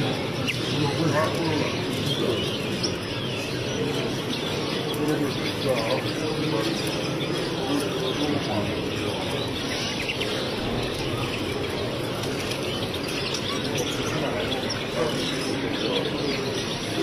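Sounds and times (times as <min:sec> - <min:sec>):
canaries chirping and singing: 0:00.0 - 0:17.0.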